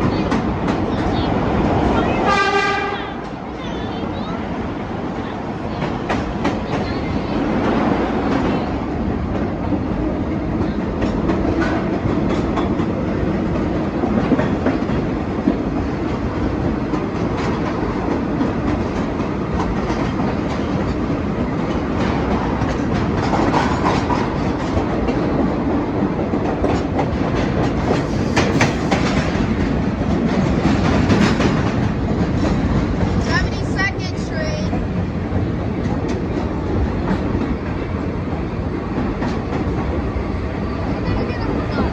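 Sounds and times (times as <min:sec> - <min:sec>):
clickety-clack over rail joints: 0:00.0 - 0:41.9
train wheels rumbling on rails: 0:00.0 - 0:41.9.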